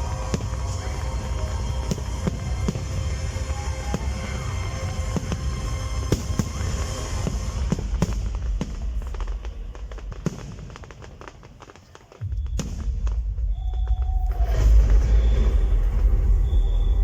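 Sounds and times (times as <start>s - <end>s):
loud low rumble: 0.0s - 10.0s, 12.3s - 17.0s
fireworks bangs and crackles: 0.0s - 17.0s.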